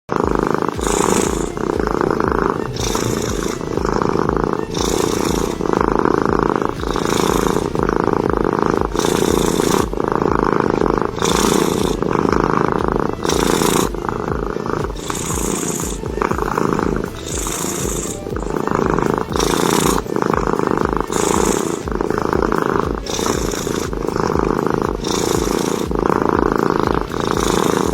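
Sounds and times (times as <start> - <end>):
cat purring loudly: 0.1 - 27.9.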